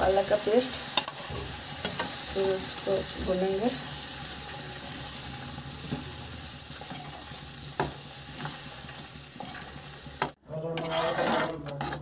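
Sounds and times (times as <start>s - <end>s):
food sizzling in a pan: 0.0s - 10.4s
metal spatula scraping: 0.8s - 12.0s.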